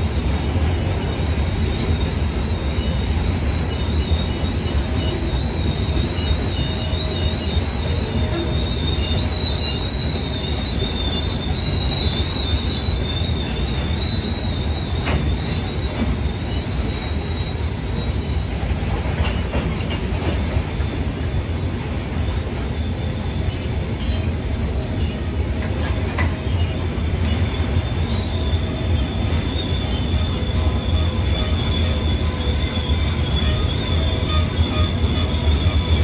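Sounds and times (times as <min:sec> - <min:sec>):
steel wheels rumbling on rail: 0:00.0 - 0:36.0
high-pitched wheel squeal: 0:00.7 - 0:21.2, 0:26.2 - 0:36.0.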